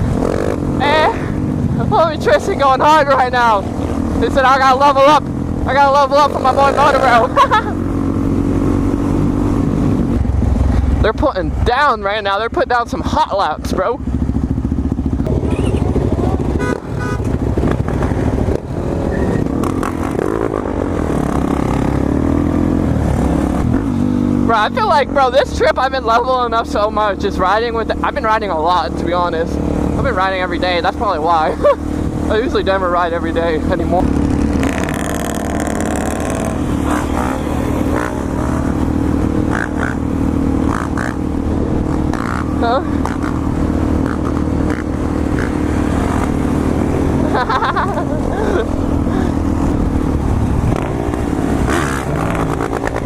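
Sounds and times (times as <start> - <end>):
dirt bike engine revving: 0.0 - 12.4, 13.6 - 53.0.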